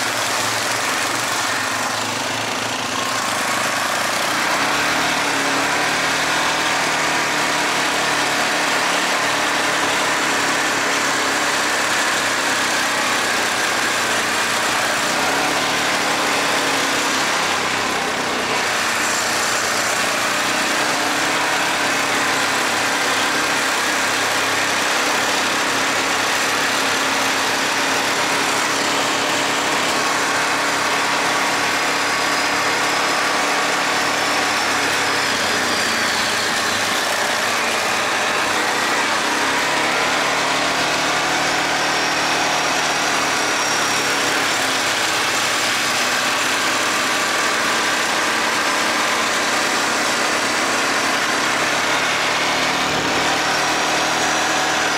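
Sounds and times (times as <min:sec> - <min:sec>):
atv engine running: 0:00.0 - 0:54.9.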